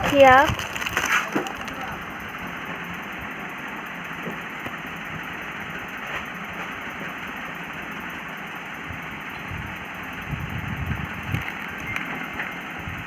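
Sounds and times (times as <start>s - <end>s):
steady engine running: 0.0s - 13.0s.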